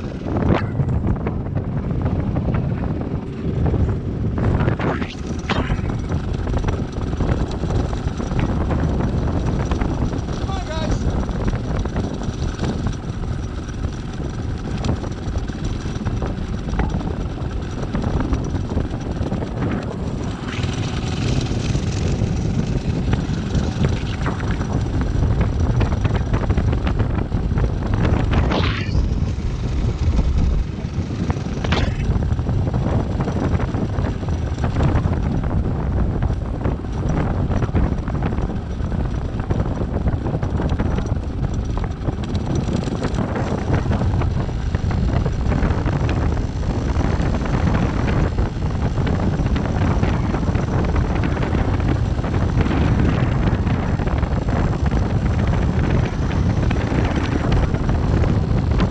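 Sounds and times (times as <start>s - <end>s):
motorcycle engine running: 0.0s - 58.9s
wind buffeting microphone: 0.0s - 58.9s.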